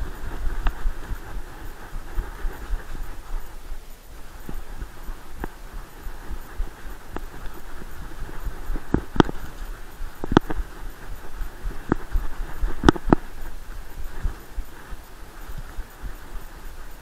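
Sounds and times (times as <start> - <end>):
low thumps of strides: 0.0 - 17.0
rustle of dry leaves: 0.0 - 17.0.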